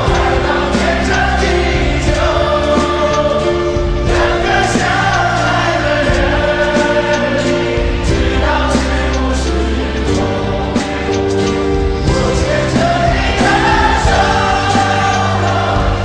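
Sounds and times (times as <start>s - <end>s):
choir-like backing vocals: 0.0s - 16.0s
regular drum beat: 0.0s - 16.0s
steady bass line: 0.0s - 16.0s.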